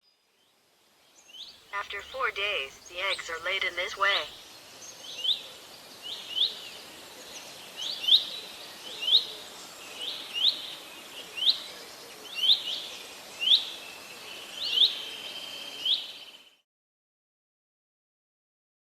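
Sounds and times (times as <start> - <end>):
faint steady hiss: 0.3 - 16.5.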